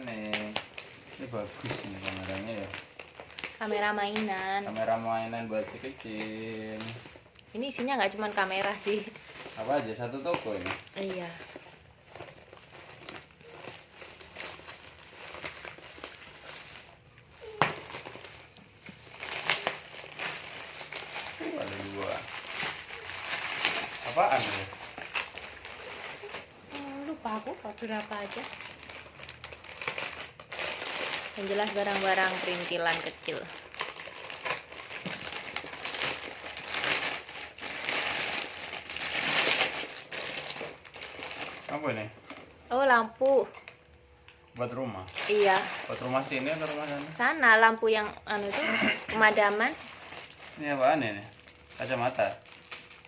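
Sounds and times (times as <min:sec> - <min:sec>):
packaging rustling and crinkling: 0:00.0 - 0:47.6, 0:48.2 - 0:53.0.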